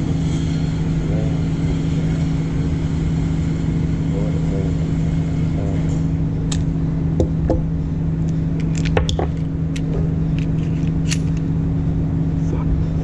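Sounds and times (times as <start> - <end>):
low hum of air handling: 0.0 - 13.0.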